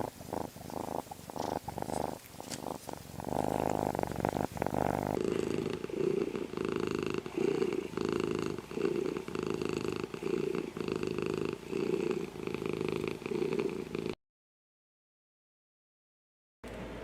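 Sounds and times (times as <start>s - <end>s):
cat purring: 0.0s - 14.2s.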